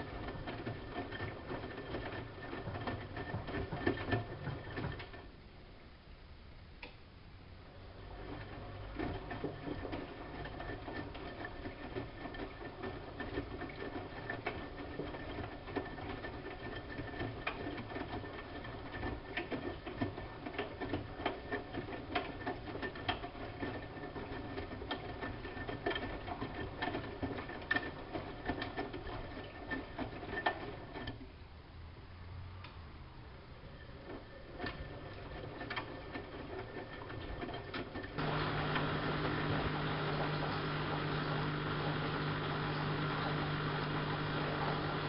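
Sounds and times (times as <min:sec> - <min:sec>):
washing machine running: 0:00.0 - 0:05.4, 0:07.7 - 0:31.2, 0:33.6 - 0:45.0.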